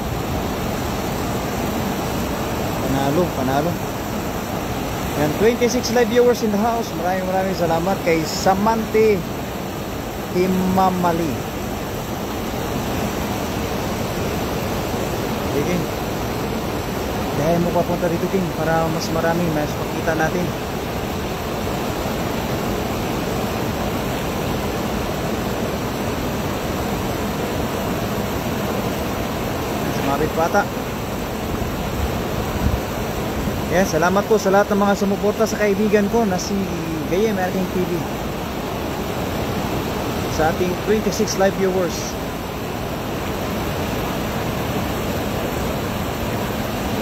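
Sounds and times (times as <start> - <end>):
shallow river water rushing: 0.0 - 47.0.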